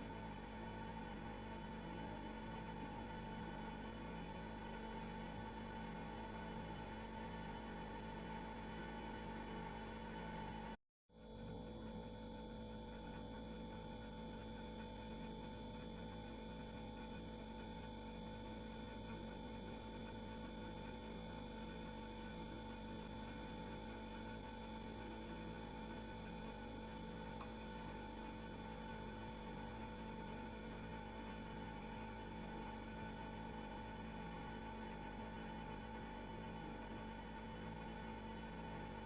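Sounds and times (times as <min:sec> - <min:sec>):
refrigerator humming: 0:00.0 - 0:10.8, 0:11.4 - 0:39.0.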